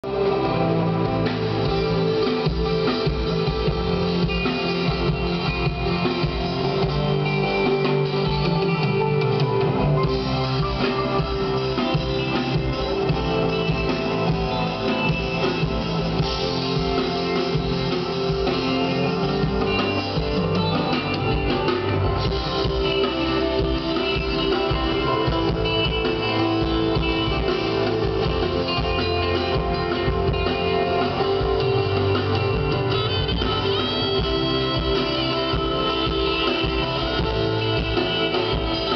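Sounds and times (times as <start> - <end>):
live band with guitar: 0.0 - 38.9.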